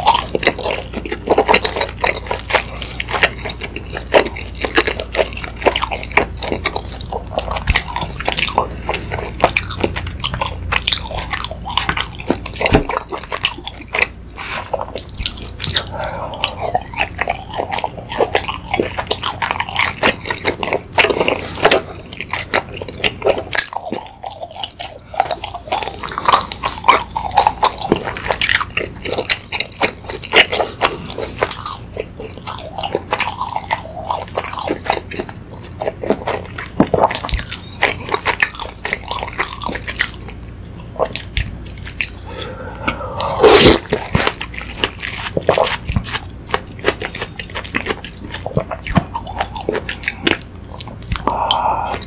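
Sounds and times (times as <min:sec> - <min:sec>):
chewing and biting food: 0:00.0 - 0:52.0.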